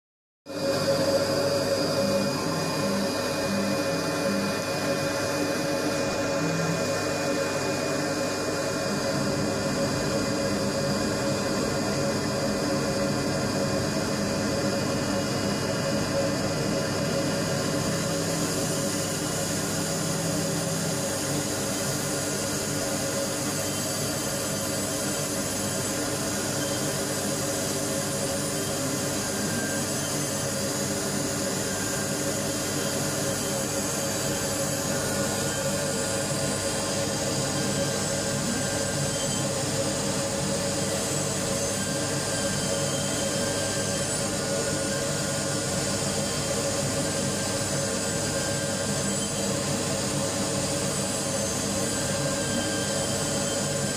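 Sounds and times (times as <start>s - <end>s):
milling machine whine: 0.5s - 53.9s.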